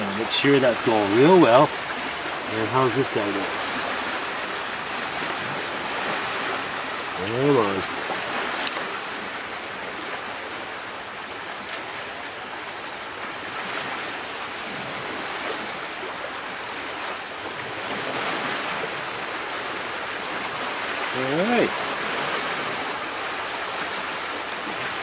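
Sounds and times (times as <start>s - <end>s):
waves rushing on shore: 0.0s - 25.0s.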